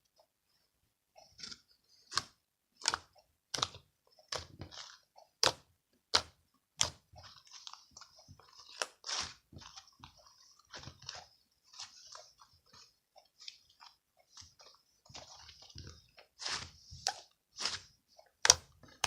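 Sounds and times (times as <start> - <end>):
crunchy food being chewed: 2.8 - 5.6, 6.2 - 19.0.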